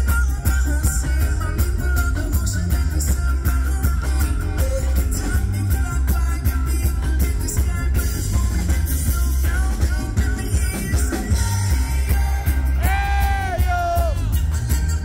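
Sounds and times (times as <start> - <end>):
bass guitar: 0.0 - 15.0
live reggae rock band playing: 0.0 - 15.0
person singing: 0.0 - 15.0.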